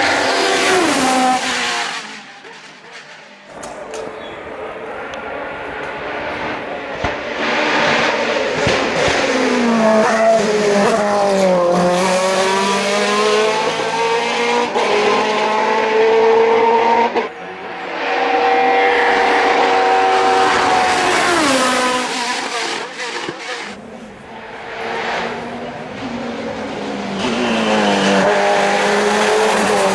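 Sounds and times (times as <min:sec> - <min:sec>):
racing car engine: 0:00.0 - 0:29.9.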